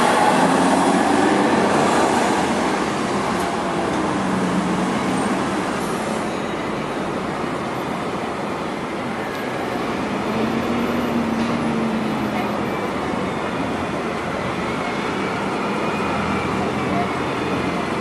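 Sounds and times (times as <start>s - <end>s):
road traffic driving past: 0.0s - 18.0s.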